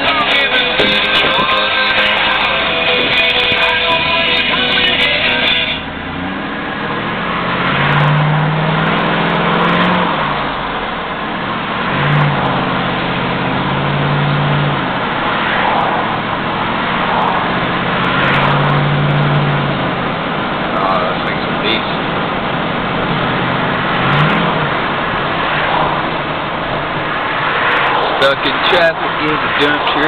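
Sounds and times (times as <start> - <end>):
road noise: 0.0 - 30.0
truck engine accelerating: 0.0 - 30.0.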